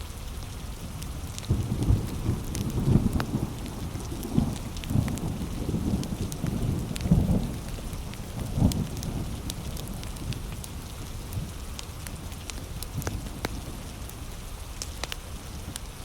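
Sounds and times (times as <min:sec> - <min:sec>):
heavy rain falling: 0:00.0 - 0:16.0
wood fire crackling and popping: 0:01.0 - 0:16.0.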